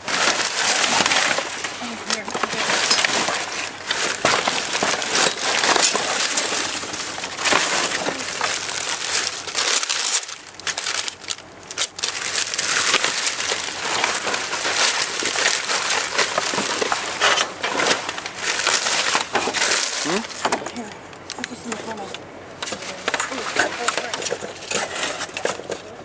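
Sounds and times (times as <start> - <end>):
plastic and cardboard crinkling: 0.0 - 26.0.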